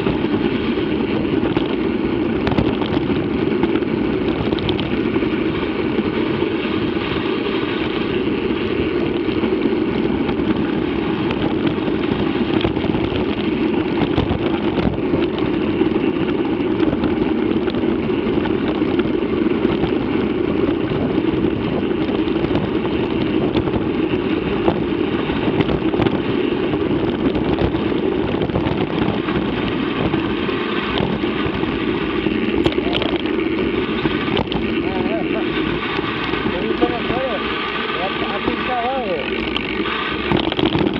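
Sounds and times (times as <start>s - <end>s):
bike rolling over gravel: 0.0s - 40.9s
wind on microphone: 0.0s - 40.9s.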